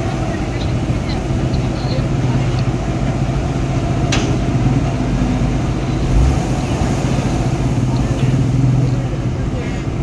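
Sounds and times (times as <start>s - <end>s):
heavy vehicle engine humming: 0.0s - 10.0s.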